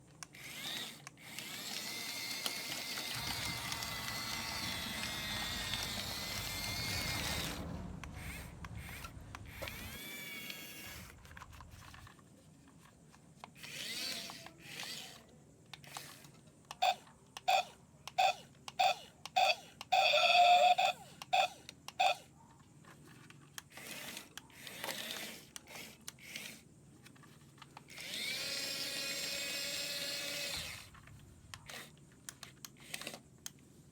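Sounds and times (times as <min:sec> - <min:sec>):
small electric motor whining: 0:00.3 - 0:12.1, 0:13.5 - 0:22.2, 0:23.7 - 0:26.6, 0:27.9 - 0:32.0.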